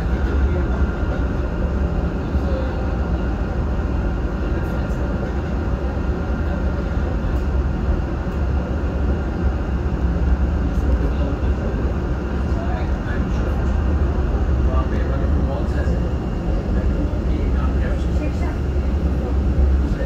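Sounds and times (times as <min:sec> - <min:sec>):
rail car rumble: 0:00.0 - 0:20.0
steady whine: 0:00.0 - 0:20.0.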